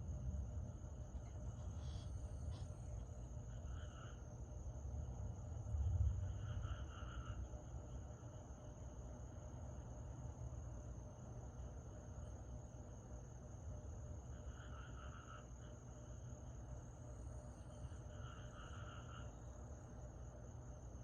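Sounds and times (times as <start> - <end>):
crickets trilling: 0.0 - 21.0
low background rumble: 0.0 - 21.0
lower pulsing insect call: 0.0 - 21.0.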